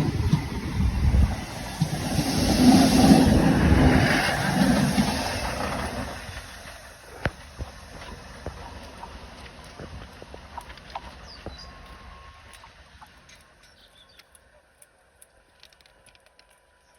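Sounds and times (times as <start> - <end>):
train passing rumble: 0.0 - 13.7.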